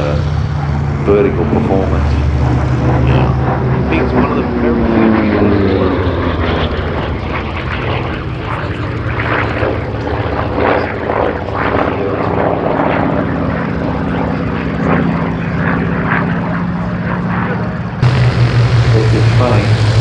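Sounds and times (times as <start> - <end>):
piston aircraft engine drone: 0.0 - 20.0.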